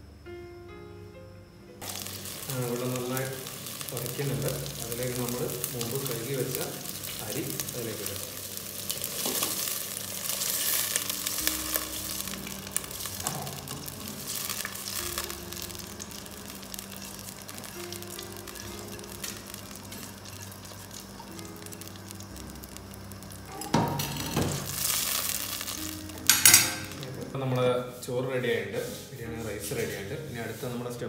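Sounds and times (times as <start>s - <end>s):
water boiling in a pot: 1.8s - 27.4s.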